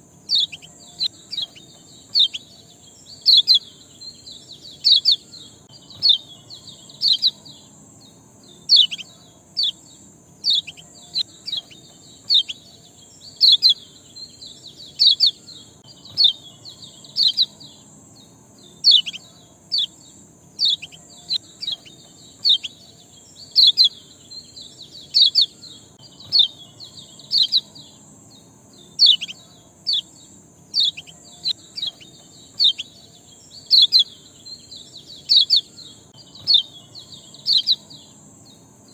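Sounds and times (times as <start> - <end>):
songbird chirping: 0.0 - 38.9
steady high hiss: 0.0 - 38.9.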